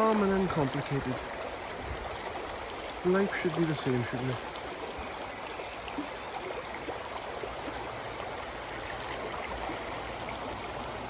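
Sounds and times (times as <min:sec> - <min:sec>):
stream water bubbling over rocks: 0:00.0 - 0:11.0.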